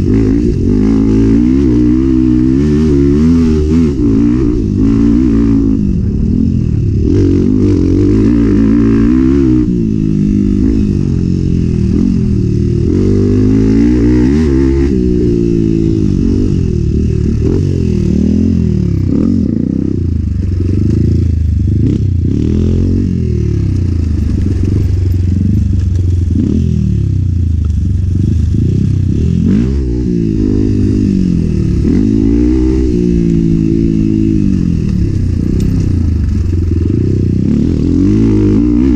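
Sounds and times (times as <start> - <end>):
dirt bike engine revving: 0.0 - 27.4, 28.0 - 38.9.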